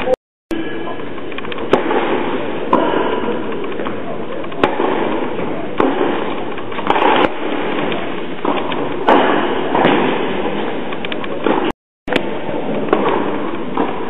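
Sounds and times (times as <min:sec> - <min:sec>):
steady background hiss: 0:00.5 - 0:14.0
balls bouncing on hard court: 0:01.4 - 0:14.0
tennis balls struck by racquets: 0:01.4 - 0:14.0.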